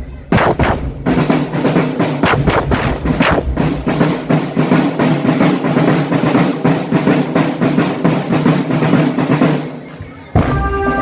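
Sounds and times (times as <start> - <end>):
marching drum band playing: 0.3 - 9.8, 10.4 - 11.0.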